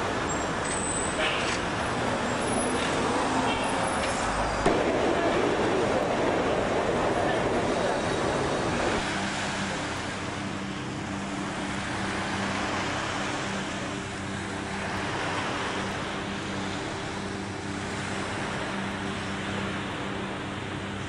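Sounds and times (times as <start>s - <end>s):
ocean surf washing on beach: 0.0s - 21.0s.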